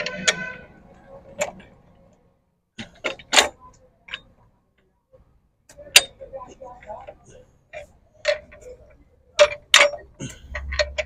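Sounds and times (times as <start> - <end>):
metallic clicks of gearbox parts: 0.0 - 2.2, 2.8 - 4.5, 5.7 - 11.0.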